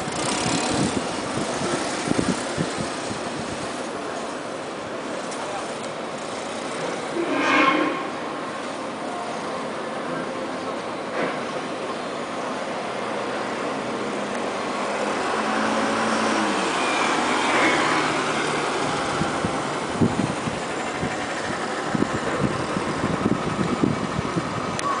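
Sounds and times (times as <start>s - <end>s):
industrial machinery roar: 0.0s - 25.0s.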